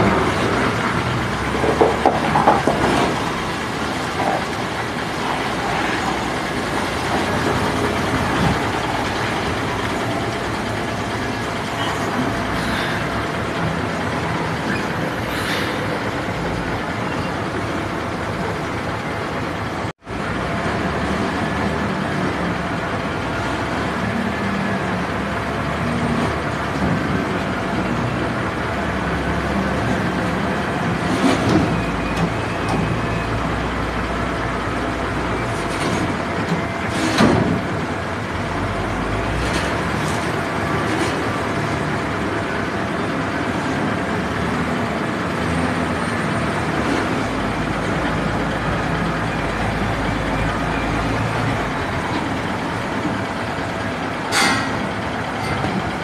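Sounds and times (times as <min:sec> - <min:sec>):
heavy diesel vehicles running: 0:00.0 - 0:56.0.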